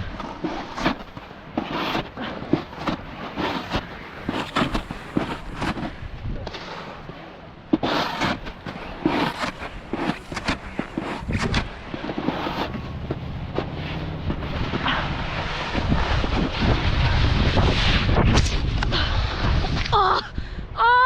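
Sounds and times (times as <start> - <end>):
snowboard scraping over snow: 0.0 - 19.9.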